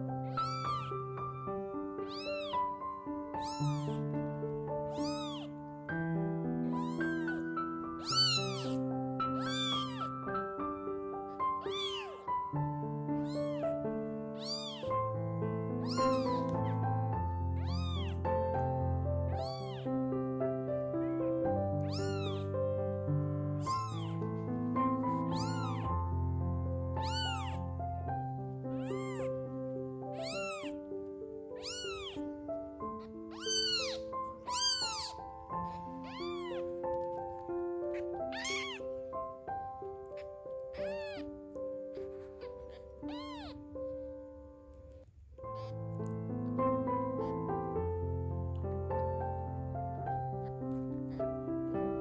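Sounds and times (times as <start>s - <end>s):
kitten meowing: 0.0s - 5.8s, 6.6s - 20.0s, 21.4s - 22.6s, 23.6s - 26.2s, 26.9s - 47.5s, 49.8s - 51.5s.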